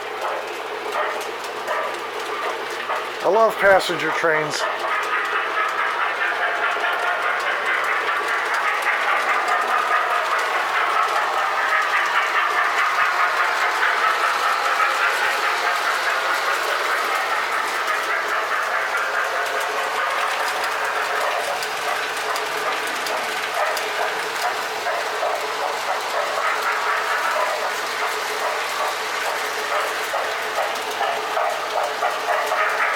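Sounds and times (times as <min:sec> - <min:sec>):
toy train whirring: 0:00.0 - 0:32.9
wheels clattering on rails: 0:00.0 - 0:32.9.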